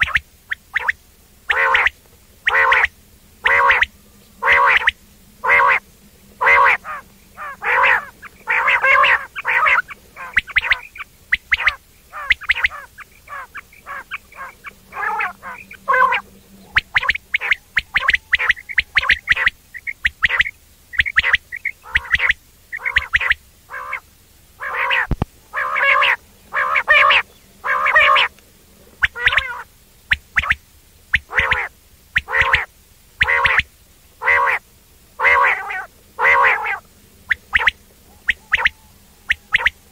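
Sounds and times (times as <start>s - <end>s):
quail calling short nasal notes: 0.0s - 5.8s, 6.4s - 34.6s, 35.2s - 39.9s.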